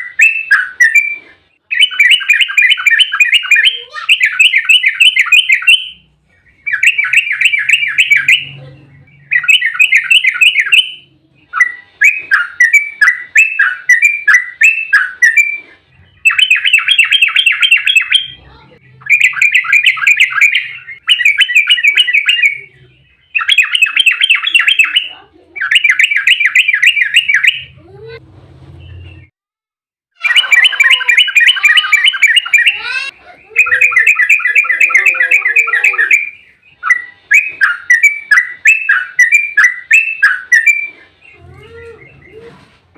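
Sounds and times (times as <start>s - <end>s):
bulbul singing rolling chatter: 0.0s - 28.2s, 30.2s - 42.8s.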